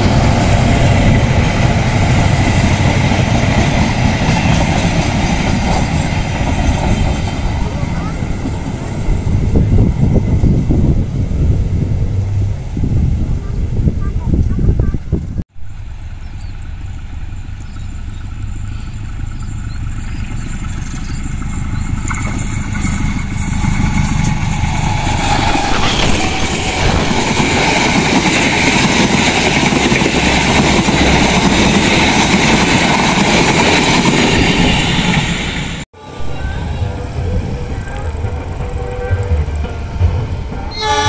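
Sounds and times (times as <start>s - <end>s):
train wheels clattering on rails: 0.0s - 11.0s, 16.4s - 35.8s, 36.8s - 41.0s
passenger train passing: 0.0s - 41.0s.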